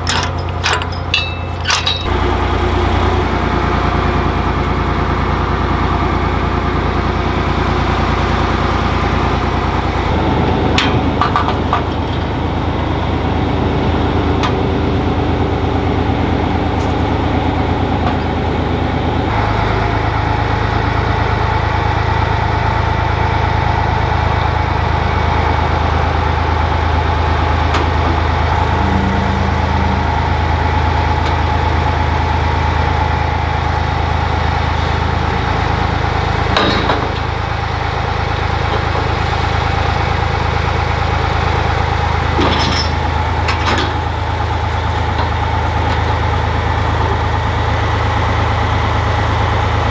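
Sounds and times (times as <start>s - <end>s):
excavator engine running: 0.0s - 49.9s.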